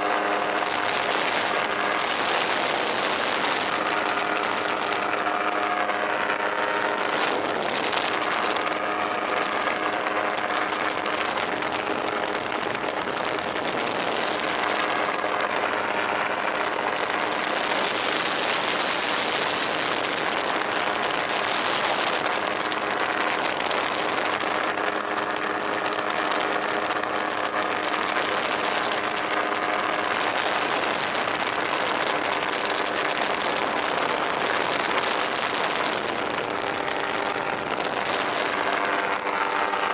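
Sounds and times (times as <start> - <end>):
aircraft engine droning: 0.0 - 39.9
wind rushing over microphone: 0.0 - 39.9.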